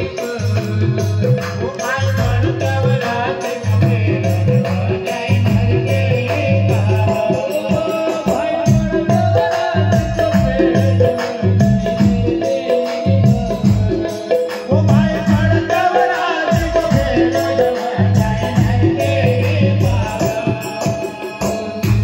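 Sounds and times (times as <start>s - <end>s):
music with a steady beat: 0.0s - 22.0s
shaker-like percussion: 0.0s - 22.0s.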